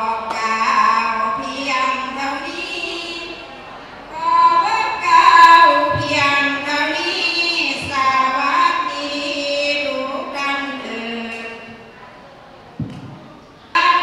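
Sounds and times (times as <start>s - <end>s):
women chanting: 0.0s - 12.0s.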